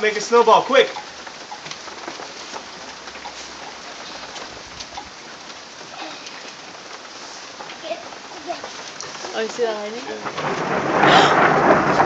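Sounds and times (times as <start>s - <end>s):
hail falling: 0.0s - 12.0s.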